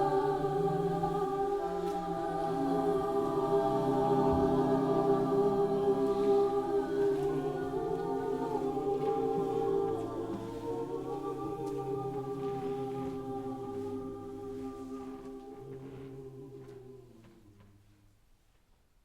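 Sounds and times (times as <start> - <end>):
choir singing held chords: 0.0 - 17.8.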